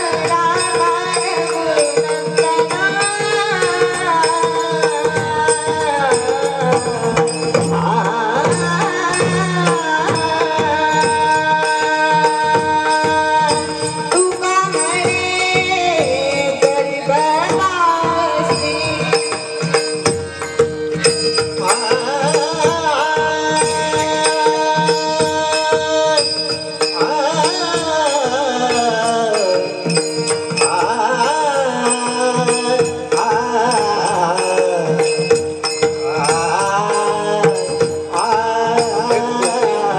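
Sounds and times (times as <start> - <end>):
drum beats: 0.0 - 39.9.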